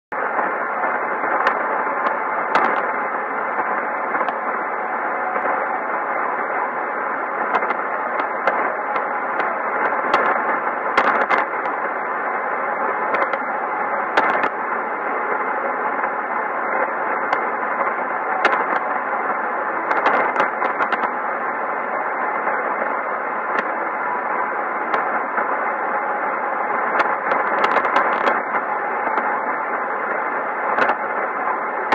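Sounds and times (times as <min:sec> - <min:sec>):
radio hiss: 0:00.1 - 0:31.9
static crackles: 0:00.1 - 0:31.9.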